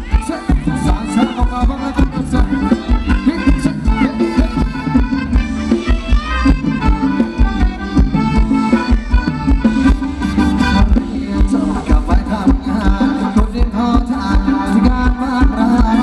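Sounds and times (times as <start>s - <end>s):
lead melody line: 0.0s - 16.0s
live band music with steady beat: 0.0s - 16.0s.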